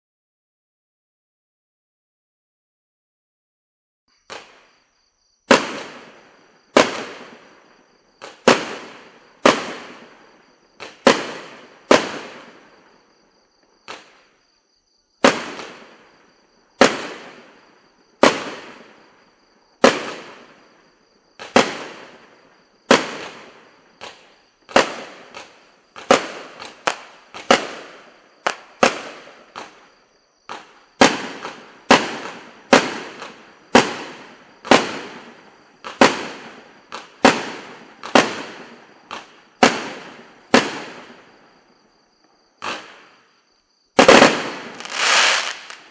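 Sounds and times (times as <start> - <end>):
firework bangs with crackle: 4.2 - 4.8, 5.4 - 13.2, 13.8 - 14.4, 15.2 - 19.2, 19.8 - 41.7, 42.6 - 43.3, 43.9 - 45.9.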